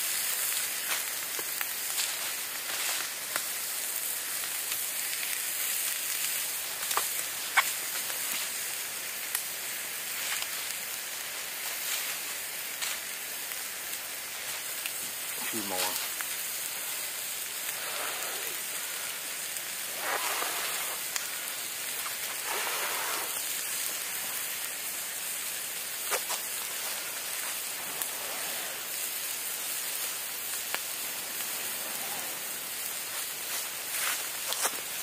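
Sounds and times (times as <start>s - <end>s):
campfire hissing and crackling: 0.0s - 35.0s.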